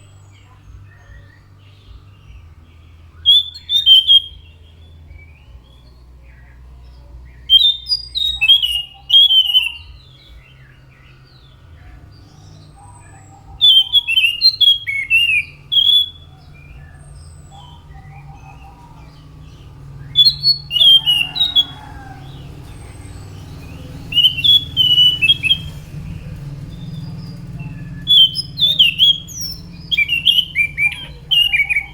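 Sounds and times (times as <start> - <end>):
faint low hum: 0.0 - 31.9
thrush singing whistled notes: 0.0 - 31.9.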